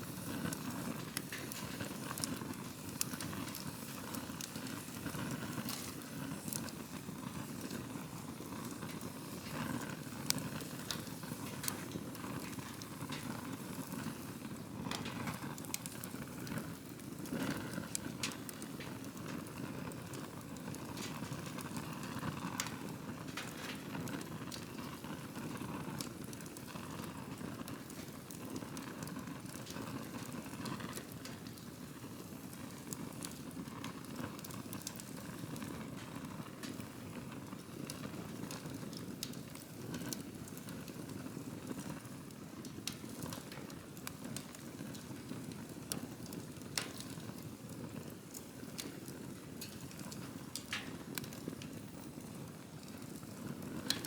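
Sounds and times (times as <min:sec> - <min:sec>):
campfire flame rushing: 0:00.0 - 0:54.0
fire crackles and pops: 0:00.0 - 0:54.0.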